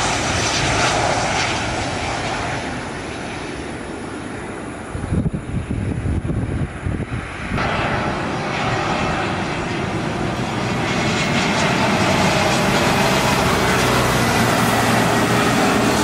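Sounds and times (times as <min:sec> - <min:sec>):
jet airliner engines whining: 0:00.0 - 0:16.0.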